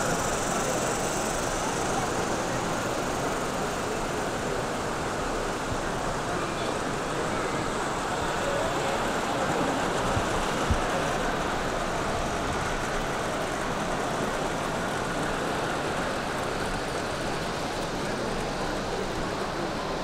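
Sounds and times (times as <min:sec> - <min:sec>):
crowd hubbub in hall: 0:00.0 - 0:20.0.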